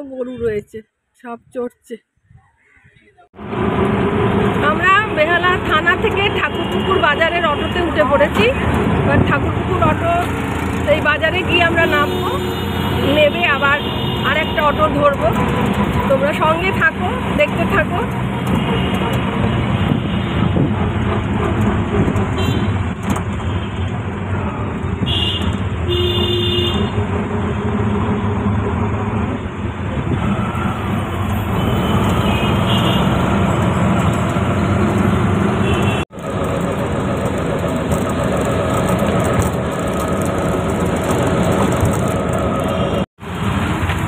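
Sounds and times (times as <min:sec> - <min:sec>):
street traffic: 0:00.0 - 0:44.0
auto-rickshaw engine running: 0:03.4 - 0:44.0.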